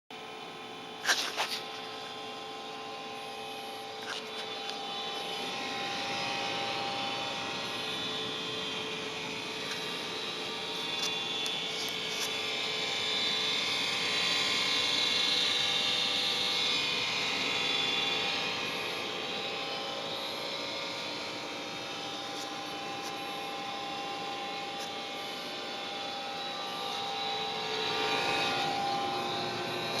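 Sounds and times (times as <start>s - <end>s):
furnace metallic whirring hum: 0.1s - 30.0s.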